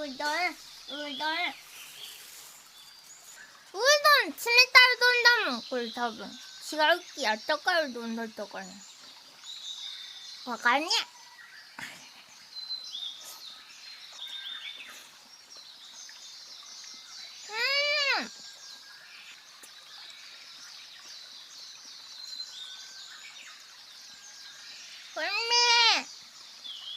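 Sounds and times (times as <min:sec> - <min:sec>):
background hiss: 0:00.0 - 0:26.9
faint birds chirping: 0:00.0 - 0:26.9.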